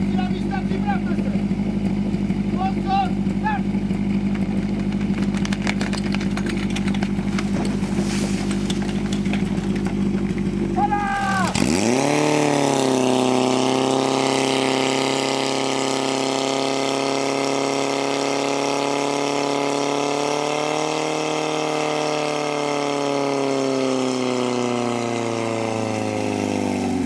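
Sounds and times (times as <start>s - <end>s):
fire pump engine revving: 0.0s - 27.0s.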